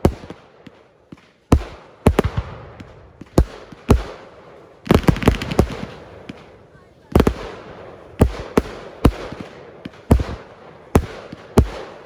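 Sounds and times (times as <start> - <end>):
crackling firework bangs: 0.0 - 12.0
fireworks bangs with echo: 0.0 - 12.0.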